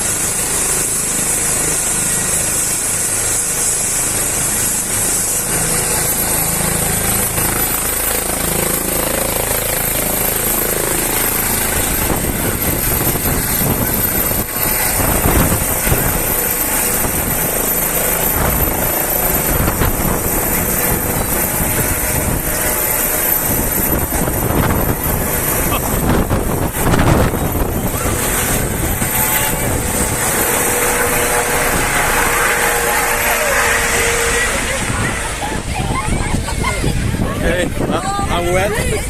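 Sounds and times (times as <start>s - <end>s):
helicopter engine whine: 0.0s - 39.0s
helicopter rotor noise: 0.0s - 39.0s.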